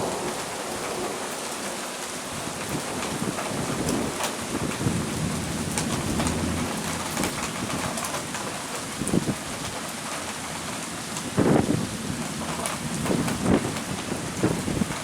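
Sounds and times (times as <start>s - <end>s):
heavy rain falling: 0.0s - 15.0s
raindrops ticking on a surface: 0.0s - 15.0s
thunder rumble: 0.0s - 15.0s.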